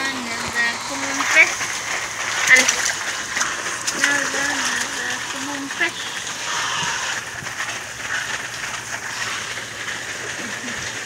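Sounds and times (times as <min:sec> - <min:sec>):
water splashing and spraying: 0:00.0 - 0:11.0.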